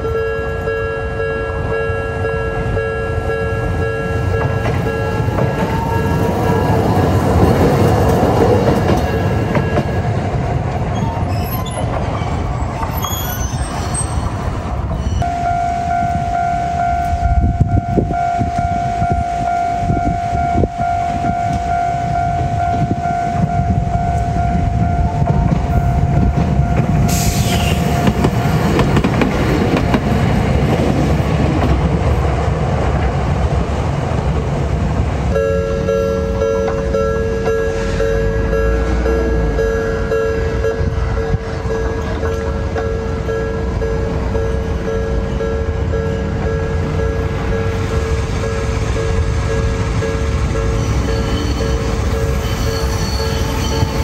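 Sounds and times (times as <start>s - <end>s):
crossing warning signal tones: 0.0s - 10.3s, 14.9s - 30.0s, 35.3s - 54.0s
tram wheels rumbling on rails: 0.0s - 54.0s.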